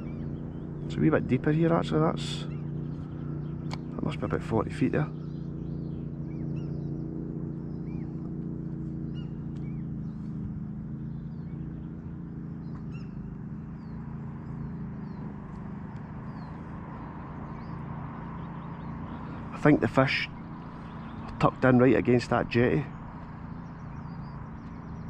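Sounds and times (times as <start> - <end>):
low engine hum: 0.0 - 25.0
small birds chirping: 0.0 - 25.0.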